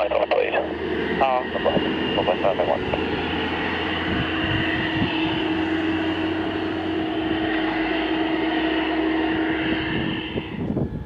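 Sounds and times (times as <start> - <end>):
constant hum tone: 0.0 - 11.0
jet engine whine: 0.0 - 11.0.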